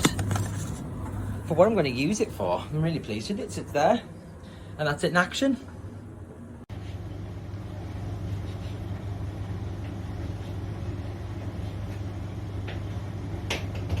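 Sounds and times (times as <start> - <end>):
tumble dryer running: 0.0 - 14.0.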